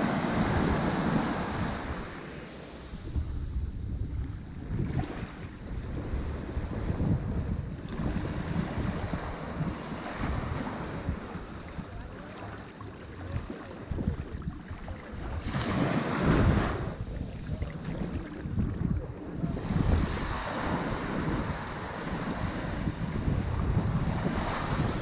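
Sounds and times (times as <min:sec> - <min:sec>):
ocean waves washing on shore: 0:00.0 - 0:25.0
wind buffeting microphone: 0:00.0 - 0:25.0.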